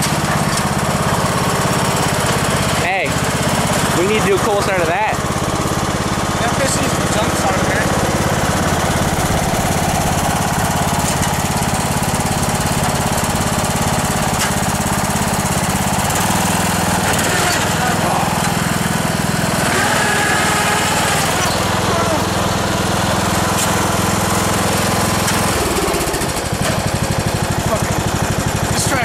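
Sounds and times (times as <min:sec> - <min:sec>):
riding mower engine running: 0:00.0 - 0:29.0.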